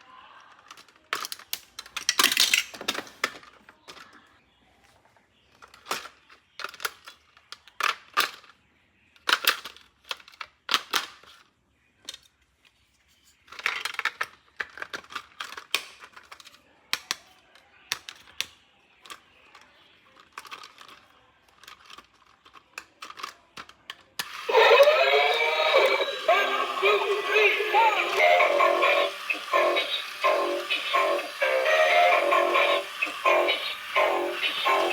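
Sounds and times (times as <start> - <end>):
plastic toy parts clicking: 0.4 - 4.2, 5.6 - 12.4, 13.4 - 34.9.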